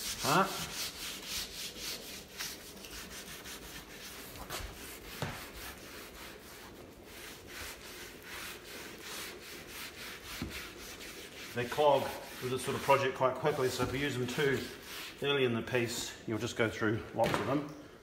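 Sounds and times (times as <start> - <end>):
pad scrubbing wet wood: 0.0 - 15.4.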